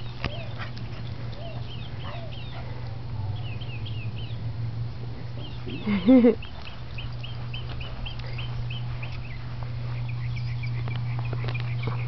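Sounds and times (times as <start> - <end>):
bird chirping: 0.0 - 4.5, 5.2 - 12.0
low hum: 0.0 - 12.0.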